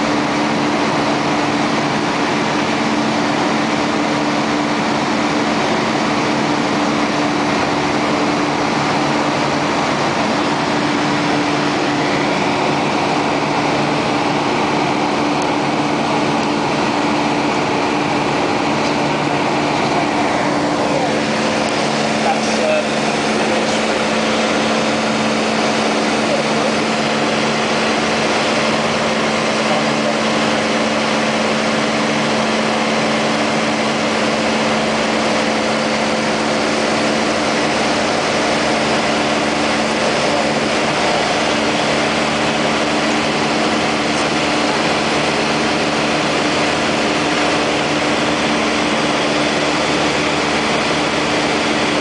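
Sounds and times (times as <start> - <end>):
aircraft engine droning: 0.0 - 52.0.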